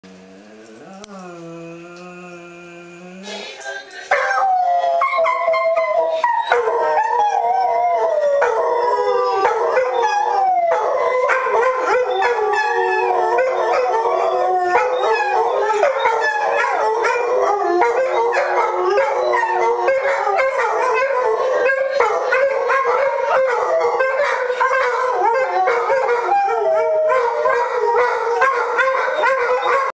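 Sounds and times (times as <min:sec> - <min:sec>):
dogs howling together: 0:04.0 - 0:30.0.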